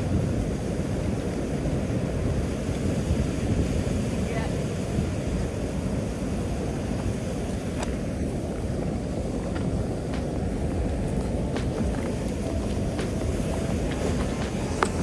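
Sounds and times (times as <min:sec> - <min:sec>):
river water flowing: 0:00.0 - 0:15.0
wind buffeting microphone: 0:00.0 - 0:15.0.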